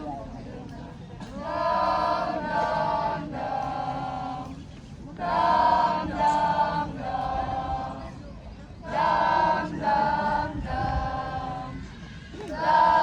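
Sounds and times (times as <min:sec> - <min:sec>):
choir singing long held notes: 0:01.3 - 0:13.0.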